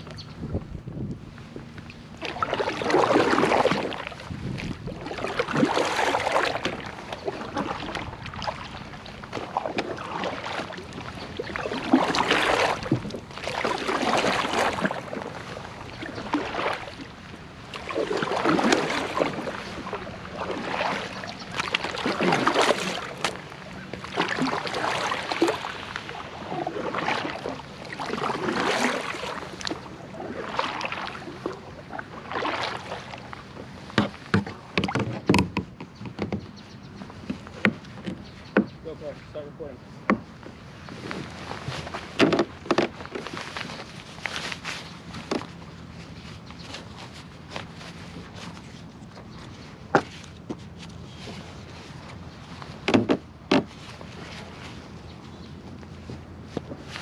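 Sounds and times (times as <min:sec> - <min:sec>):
water splashing against kayak hull: 0:00.0 - 0:57.0.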